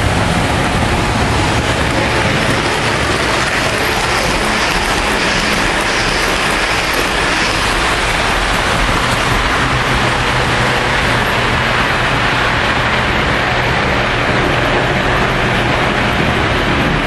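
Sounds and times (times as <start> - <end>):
model trains rumbling: 0.0 - 17.0.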